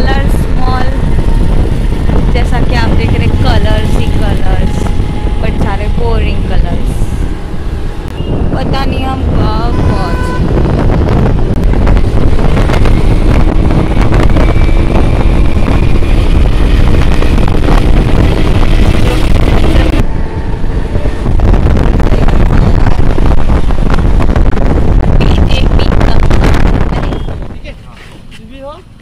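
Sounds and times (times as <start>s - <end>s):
road noise from traffic: 0.0s - 29.0s
wind buffeting microphone: 0.0s - 29.0s.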